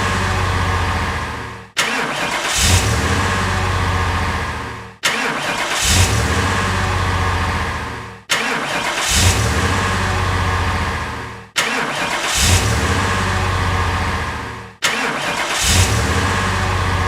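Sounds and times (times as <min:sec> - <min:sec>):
car engine starting: 0:00.0 - 0:17.0.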